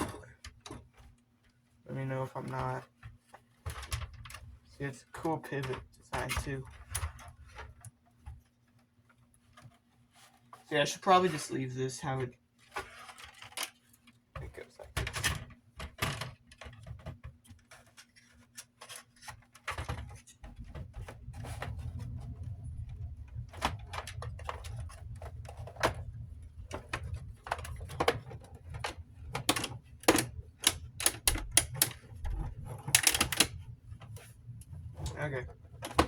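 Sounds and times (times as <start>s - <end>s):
plastic parts clicking and knocking: 0.0s - 1.1s, 2.3s - 4.5s, 5.1s - 8.5s, 12.6s - 36.0s.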